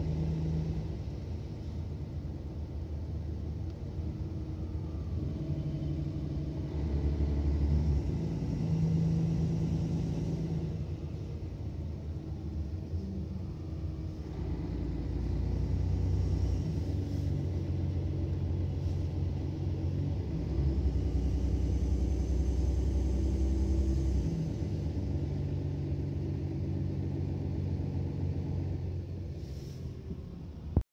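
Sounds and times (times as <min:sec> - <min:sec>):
bus diesel engine rumble: 0:00.0 - 0:30.8.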